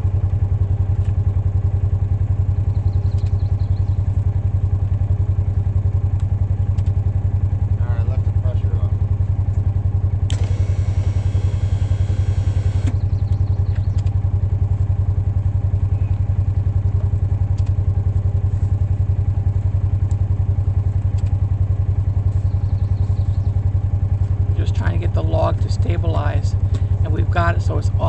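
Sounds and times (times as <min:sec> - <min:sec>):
small engine idling: 0:00.0 - 0:28.0.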